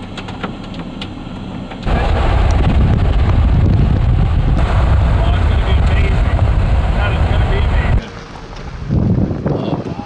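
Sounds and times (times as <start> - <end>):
wind buffeting microphone: 1.8 - 10.0.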